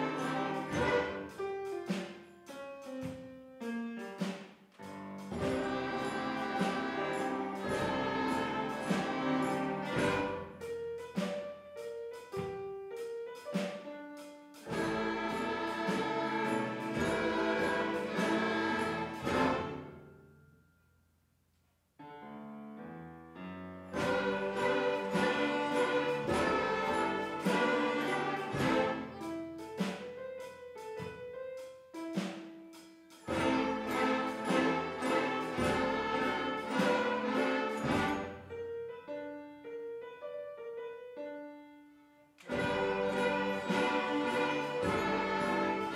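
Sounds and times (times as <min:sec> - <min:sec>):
school orchestra playing swing: 0:00.0 - 0:20.1, 0:23.9 - 0:39.2, 0:42.4 - 0:45.9.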